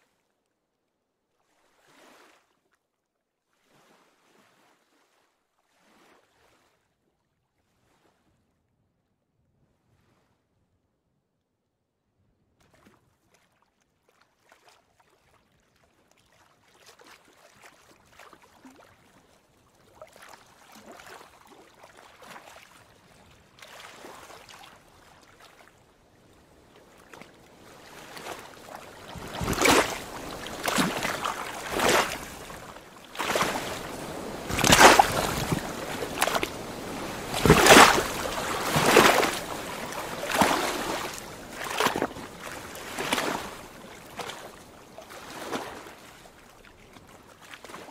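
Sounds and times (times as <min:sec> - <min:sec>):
water lapping against a dock: 0:01.2 - 0:08.6, 0:12.6 - 0:47.9.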